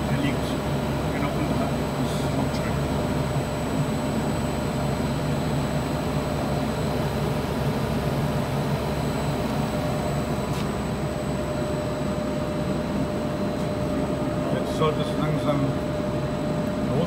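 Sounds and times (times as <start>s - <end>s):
machine humming with whine: 0.0s - 17.0s.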